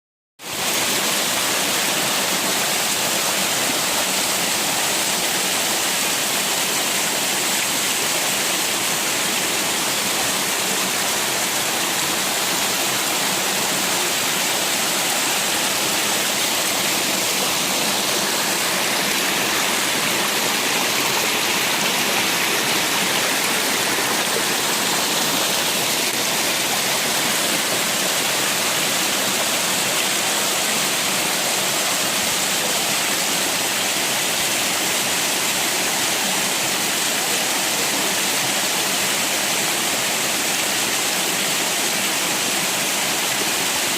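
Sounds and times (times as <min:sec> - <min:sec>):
small waterfall splashing: 0:00.4 - 0:43.9.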